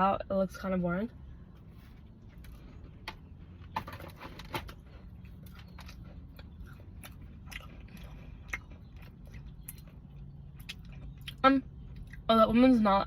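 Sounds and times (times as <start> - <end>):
person chewing cookie: 1.3 - 12.3.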